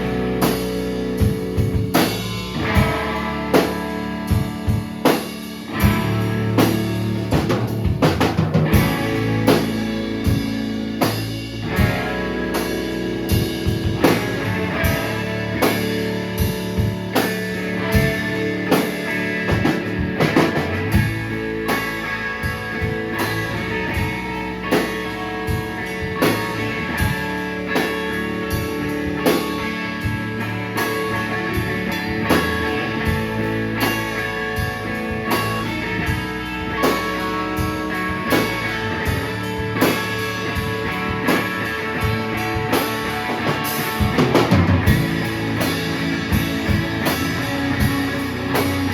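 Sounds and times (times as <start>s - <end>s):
drum kit hits: 0.0s - 48.9s
electric guitar: 0.0s - 48.9s.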